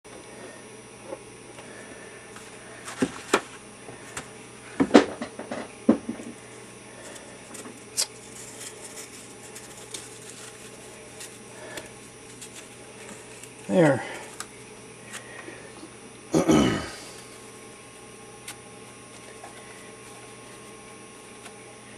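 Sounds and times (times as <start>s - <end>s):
steady low hum: 0.1s - 21.9s.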